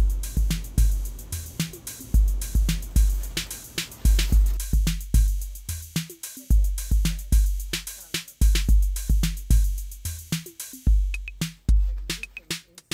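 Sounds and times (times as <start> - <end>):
electronic drum beat: 0.0 - 12.9.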